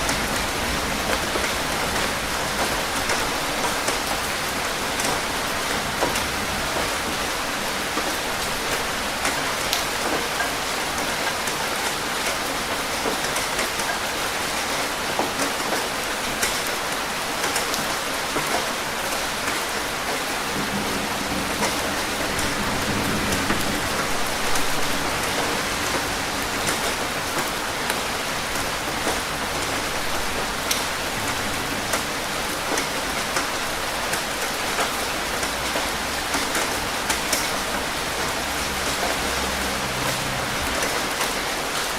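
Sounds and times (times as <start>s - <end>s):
rain drops pattering: 0.0s - 41.9s.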